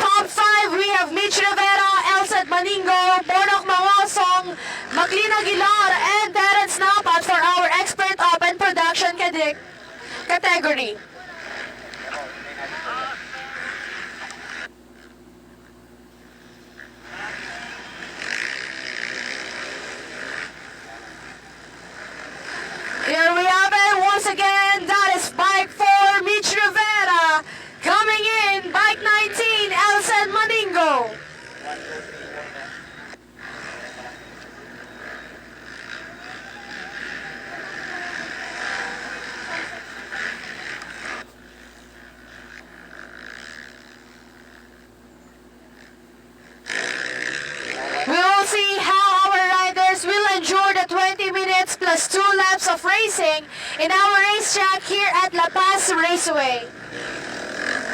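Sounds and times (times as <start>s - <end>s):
dirt bike engines revving: 0.0s - 57.9s
steady low hum: 0.0s - 57.9s.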